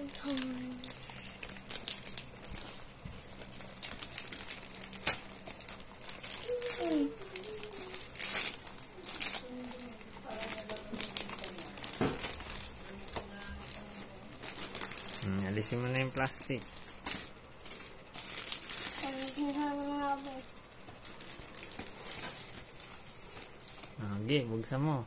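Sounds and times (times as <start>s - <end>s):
plastic mailer bag crinkling: 0.0s - 24.2s.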